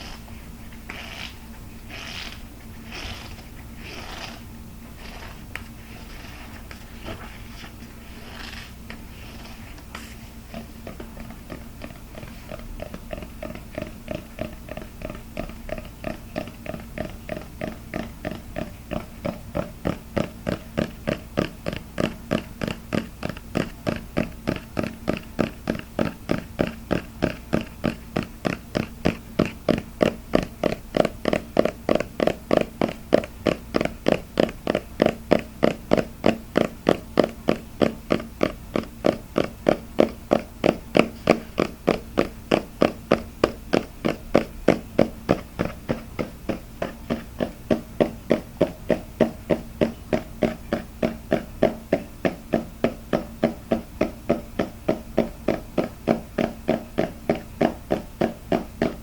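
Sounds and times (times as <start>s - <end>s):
faint steady hum: 0.0s - 59.0s
fast steady tapping: 0.8s - 59.0s.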